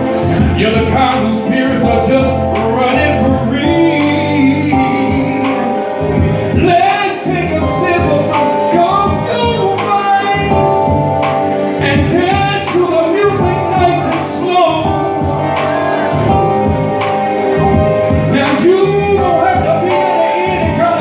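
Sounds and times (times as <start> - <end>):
men singing into microphones: 0.0 - 11.0, 11.7 - 16.8, 18.3 - 21.0
instrumental backing with beat: 0.0 - 21.0.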